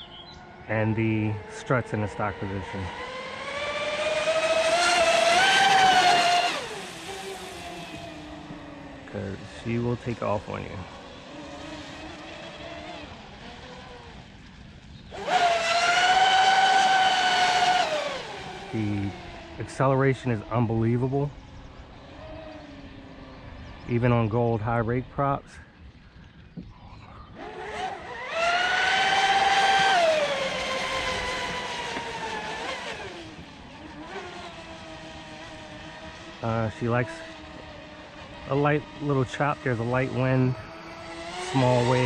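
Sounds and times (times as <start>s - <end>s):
electric motor high whine: 0.0s - 42.0s.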